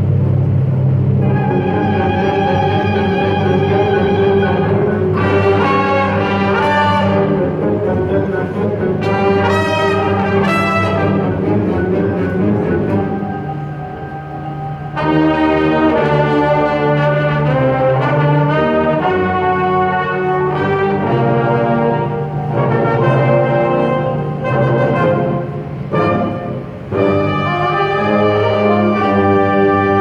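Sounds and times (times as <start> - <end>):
wind ensemble playing chords: 0.0 - 30.0.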